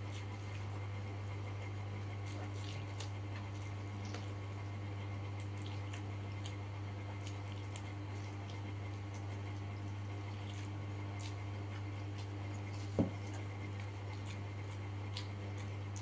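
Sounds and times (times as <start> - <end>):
low electrical hum: 0.0 - 16.0
wet chewing and lip-smacking: 2.0 - 16.0.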